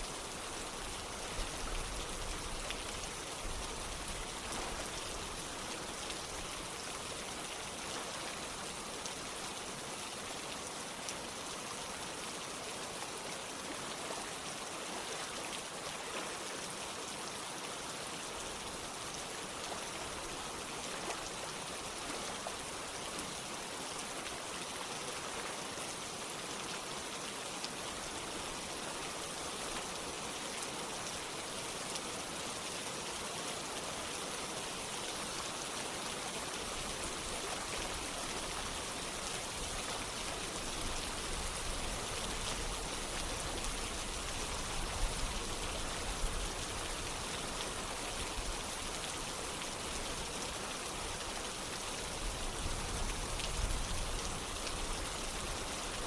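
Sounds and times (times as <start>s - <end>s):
running water: 0.0s - 56.0s
steady rain falling: 0.0s - 56.0s.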